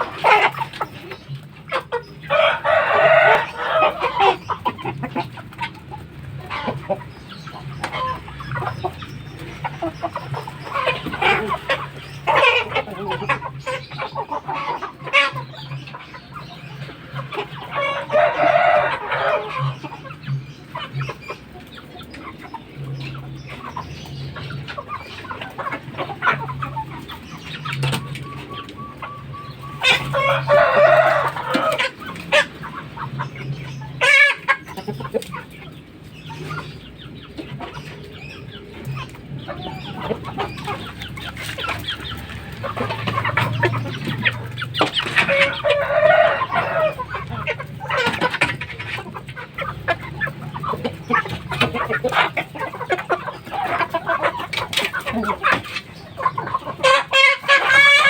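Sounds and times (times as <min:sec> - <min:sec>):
chickens clucking: 0:00.0 - 0:58.0
roosters crowing: 0:00.0 - 0:58.0.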